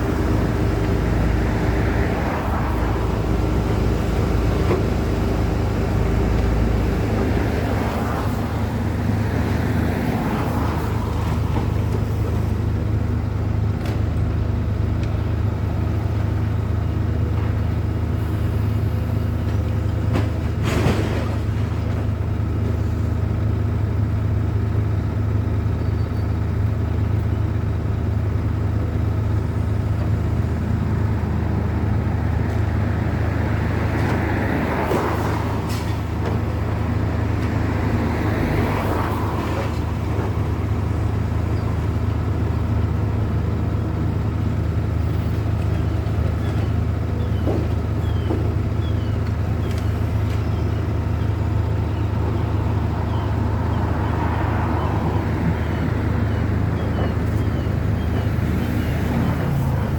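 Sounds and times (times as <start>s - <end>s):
engine humming: 0.0s - 59.9s.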